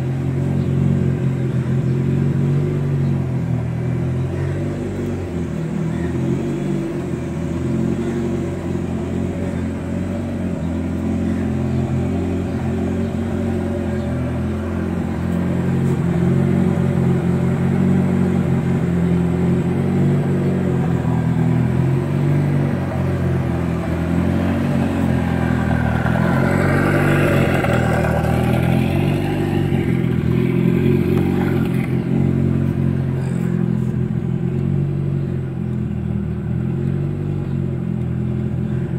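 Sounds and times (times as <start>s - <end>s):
turbocharged car engine running: 0.0s - 38.9s.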